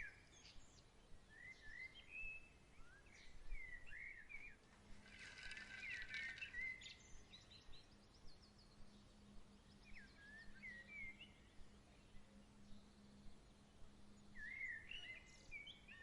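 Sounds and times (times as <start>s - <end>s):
faint low hum: 0.0s - 16.0s
songbirds chirping and warbling: 0.0s - 16.0s.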